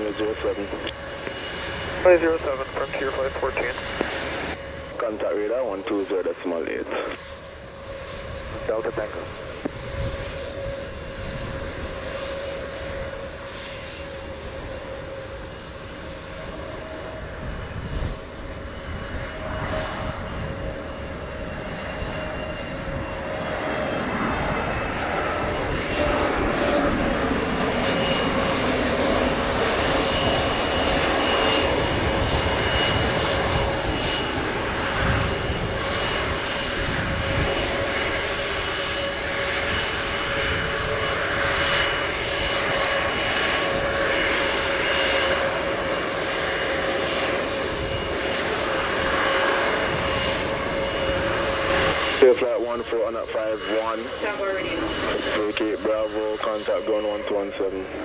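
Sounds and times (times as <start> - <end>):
jet airliner engines whining: 0.0 - 58.0.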